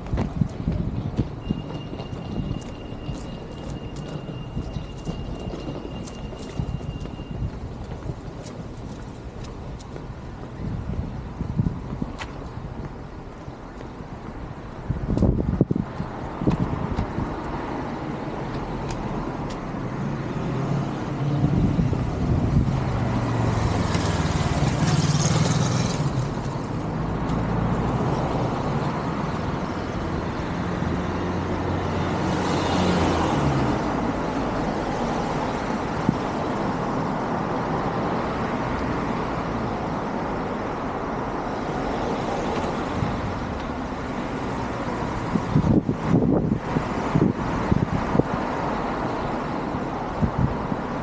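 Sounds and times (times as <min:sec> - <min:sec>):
steady traffic hum: 0:00.0 - 0:51.0.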